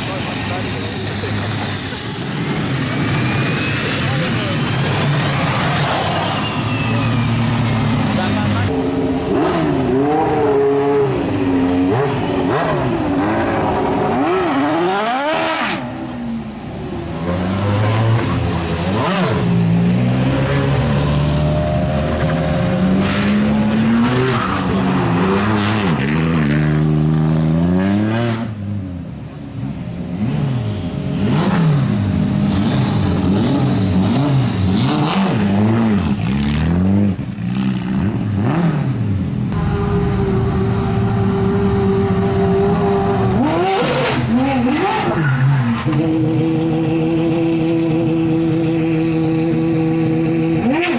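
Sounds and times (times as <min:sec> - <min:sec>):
racing car engines revving: 0:00.0 - 0:50.9.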